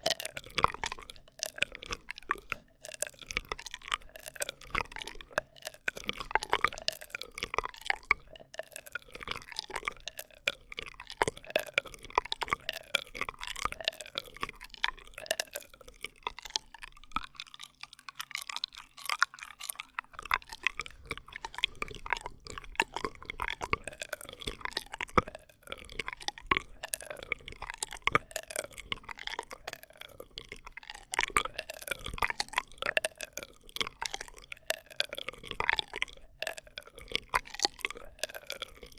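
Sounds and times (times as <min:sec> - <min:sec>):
straw wet clicks and squeaks: 0:00.0 - 0:38.9.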